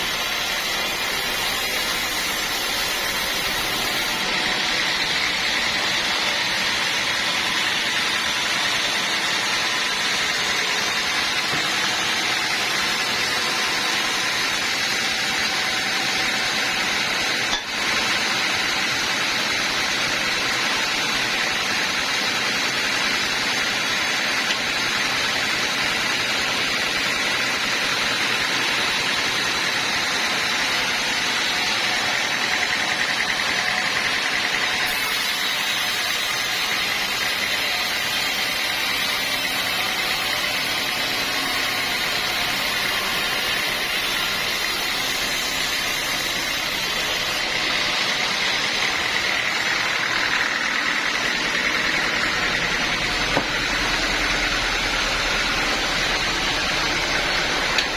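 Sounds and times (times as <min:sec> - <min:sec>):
sawmill blade cutting log: 0:00.0 - 0:57.9.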